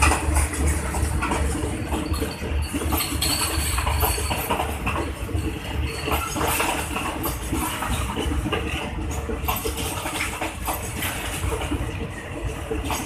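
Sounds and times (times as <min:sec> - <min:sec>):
train wheels clacking over rail joints: 0:00.0 - 0:13.0.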